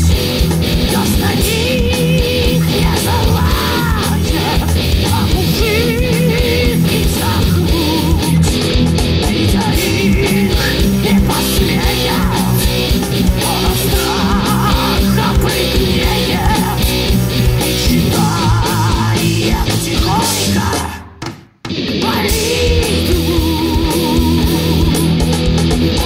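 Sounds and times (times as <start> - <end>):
heavy rock song with electric guitars: 0.0 - 26.0.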